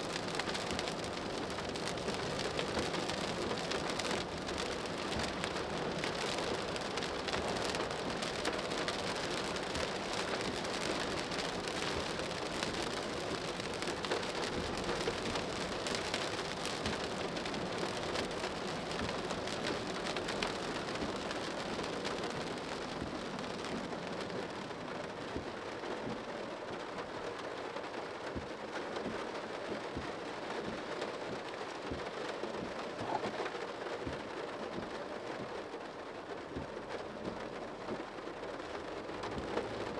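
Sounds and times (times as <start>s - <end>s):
rain on a car: 0.0s - 39.9s.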